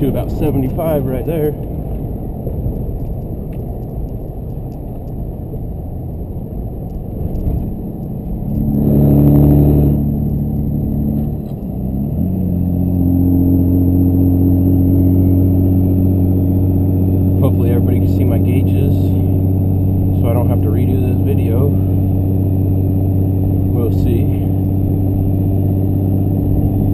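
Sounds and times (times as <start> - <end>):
diesel engine drone: 0.0 - 26.9
road rumble inside vehicle: 0.0 - 26.9.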